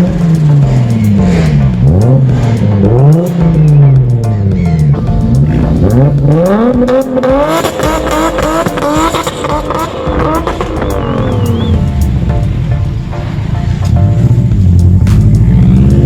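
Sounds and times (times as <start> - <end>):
car engine revving hard: 0.0 - 11.8, 14.1 - 16.0.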